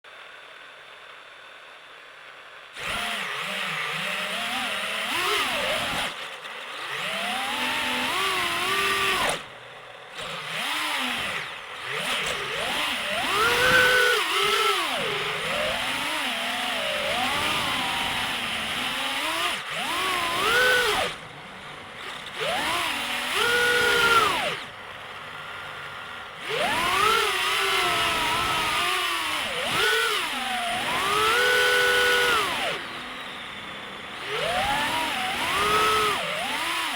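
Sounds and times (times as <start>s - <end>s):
quadcopter motors whining: 2.8s - 36.9s.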